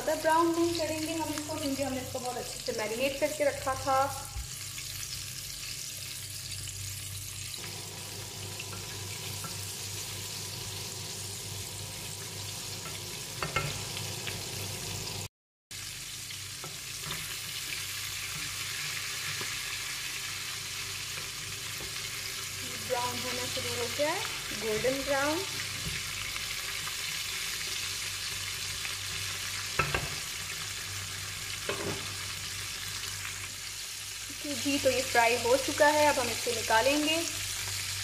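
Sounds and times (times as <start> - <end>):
chicken deep-frying in oil: 0.0 - 38.0.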